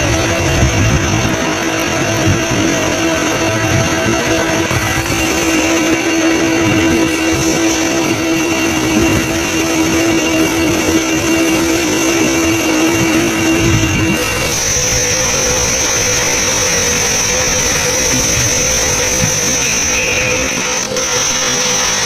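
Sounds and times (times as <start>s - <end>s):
steady droning tone: 0.0s - 22.0s.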